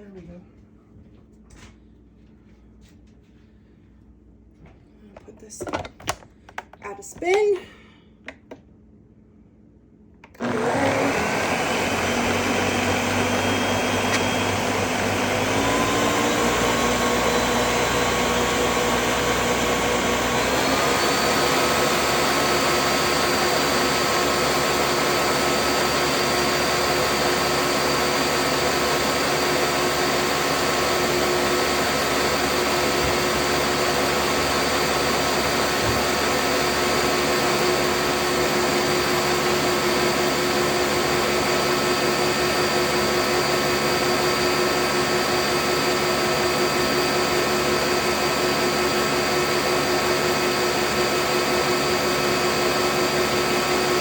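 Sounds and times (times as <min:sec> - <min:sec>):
electric blender whining: 0:10.2 - 0:54.0.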